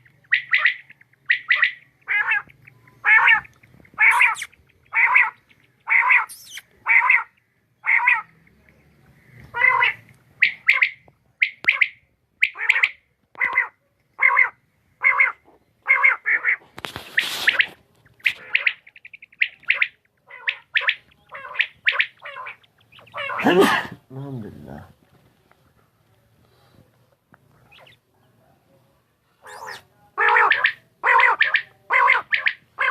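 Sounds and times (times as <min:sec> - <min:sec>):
quail calling: 0:00.0 - 0:08.4, 0:09.2 - 0:23.9, 0:27.6 - 0:28.0, 0:29.4 - 0:32.9.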